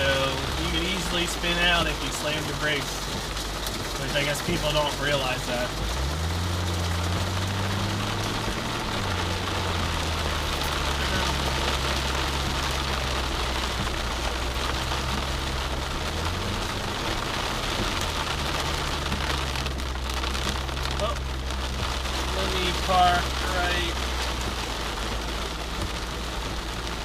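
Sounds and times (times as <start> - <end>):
car engine at low speed: 0.0 - 27.0
rain on a car: 0.0 - 27.0.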